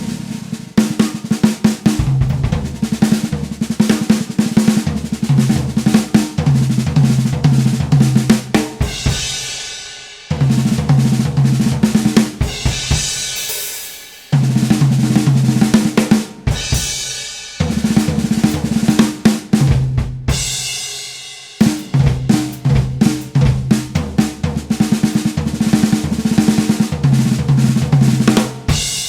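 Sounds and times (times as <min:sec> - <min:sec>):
snare drum fills: 0:00.0 - 0:09.5, 0:10.3 - 0:20.6, 0:21.6 - 0:29.0.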